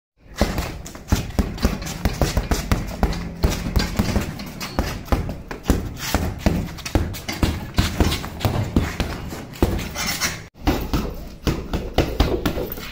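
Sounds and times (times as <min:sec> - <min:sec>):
gloves punching heavy bag: 0:00.2 - 0:12.9.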